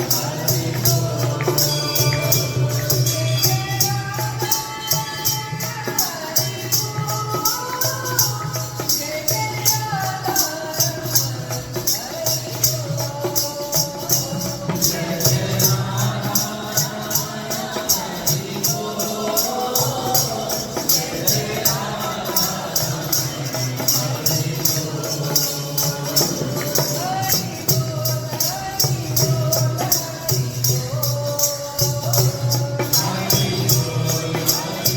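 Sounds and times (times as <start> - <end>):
devotional singing: 0.0 - 34.9.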